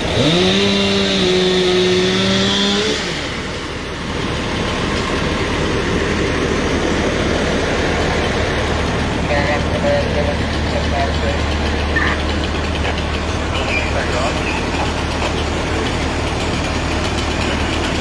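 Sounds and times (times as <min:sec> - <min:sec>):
vehicle engine revving: 0:00.0 - 0:18.0
low engine rumble: 0:03.3 - 0:18.0.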